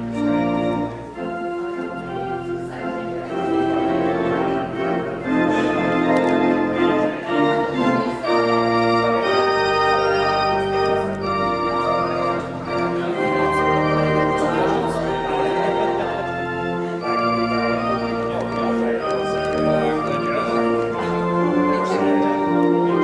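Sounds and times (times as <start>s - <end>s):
organ playing sustained chords: 0.0s - 23.0s.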